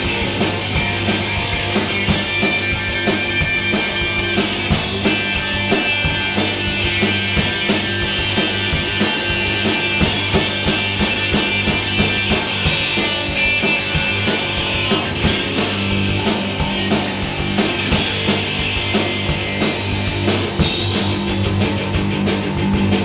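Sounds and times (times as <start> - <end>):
drum kit beating: 0.0 - 23.0
electric guitars: 0.0 - 23.0.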